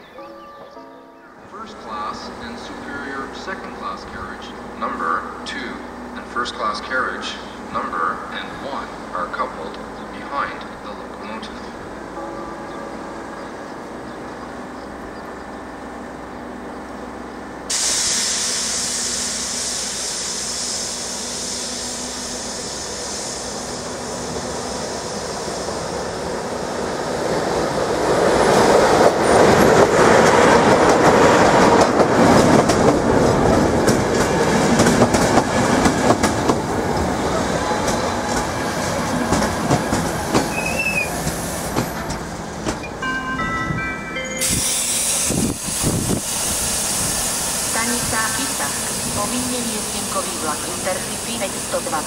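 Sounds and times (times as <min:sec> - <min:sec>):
electric train approaching: 0:00.0 - 0:52.0.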